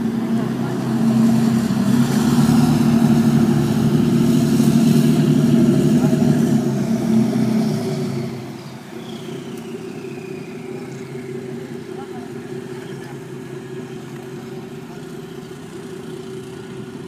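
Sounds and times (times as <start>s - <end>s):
jet boat engine running: 0.0s - 17.0s.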